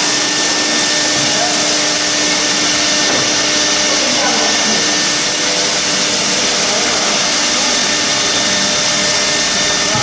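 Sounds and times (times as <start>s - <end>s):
cnc router whining: 0.0s - 10.0s.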